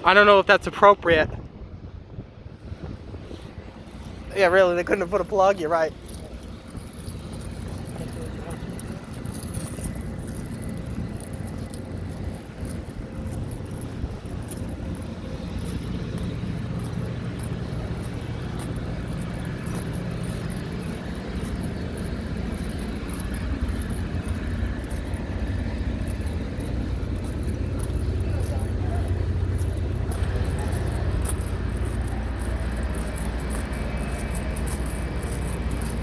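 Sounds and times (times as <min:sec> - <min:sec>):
car driving rumble: 0:00.0 - 0:36.0.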